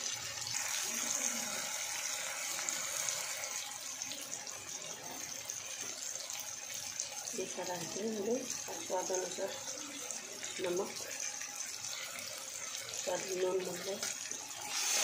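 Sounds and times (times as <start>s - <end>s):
masala sizzling in a pan: 0.0s - 15.0s.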